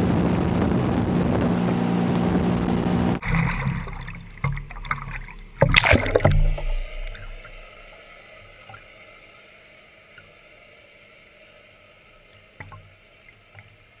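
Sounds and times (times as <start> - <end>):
water rushing and splashing: 0.0 - 14.0.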